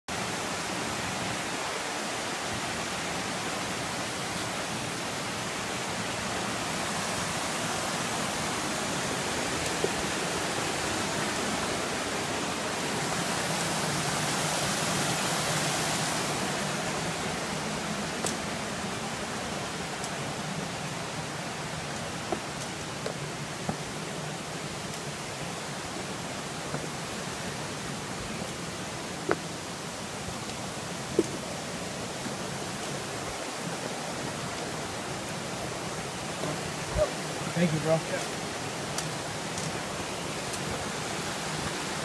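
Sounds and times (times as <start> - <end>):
creek rushing over cascades: 0.1 - 42.0.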